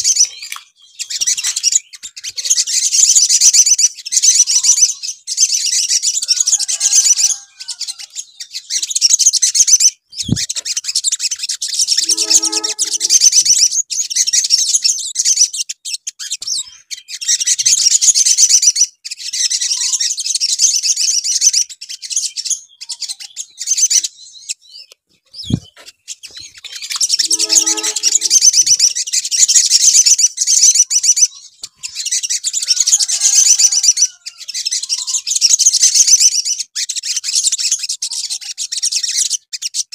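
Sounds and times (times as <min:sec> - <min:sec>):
sunbirds singing chattering song: 0:00.0 - 0:39.9.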